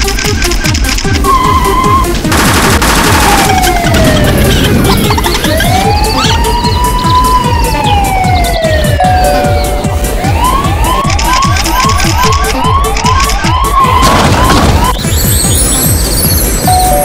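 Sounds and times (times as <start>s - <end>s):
electronic music with drum beat: 0.0s - 17.0s
siren wailing and yelping: 1.2s - 2.2s, 3.0s - 15.7s.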